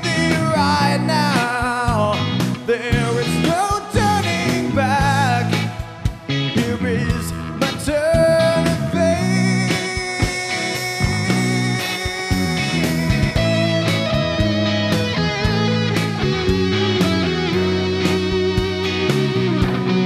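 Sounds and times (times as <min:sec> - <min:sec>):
bass: 0:00.0 - 0:20.0
electric guitar lead: 0:00.0 - 0:20.0
programmed drums: 0:00.0 - 0:20.0.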